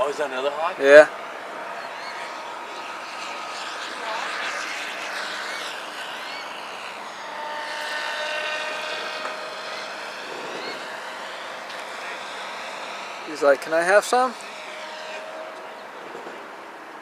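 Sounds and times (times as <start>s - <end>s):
model airplane motor droning: 0.0s - 17.0s.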